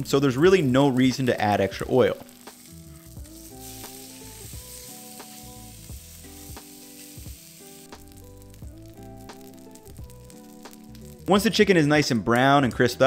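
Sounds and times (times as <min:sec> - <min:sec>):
chicken skin sizzling: 0:00.0 - 0:12.0
light background music: 0:00.0 - 0:13.0.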